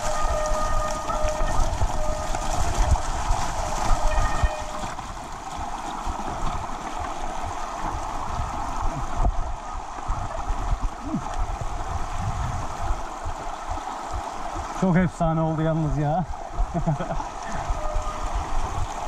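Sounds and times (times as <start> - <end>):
bike tyres on mud and gravel: 0.0 - 16.8
wind buffeting microphone: 0.0 - 19.0.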